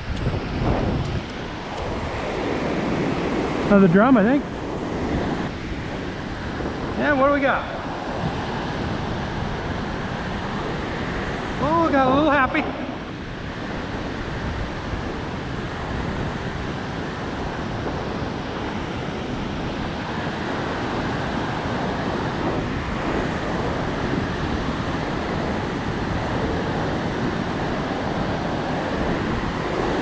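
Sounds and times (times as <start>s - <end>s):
ocean surf breaking on beach: 0.0s - 30.0s
wind buffeting microphone: 0.0s - 30.0s.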